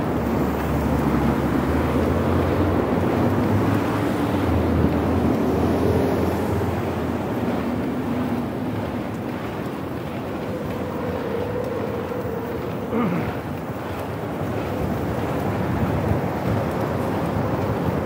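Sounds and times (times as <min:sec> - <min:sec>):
passing traffic road noise: 0:00.0 - 0:18.0
wind rushing over microphone: 0:00.0 - 0:18.0.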